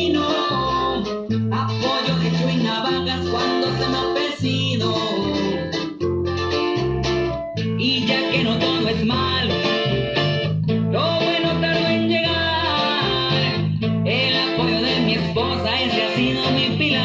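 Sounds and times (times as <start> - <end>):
person singing: 0.0 - 6.0, 7.8 - 17.0
guitar: 0.0 - 17.0
pulsing bass: 0.0 - 17.0.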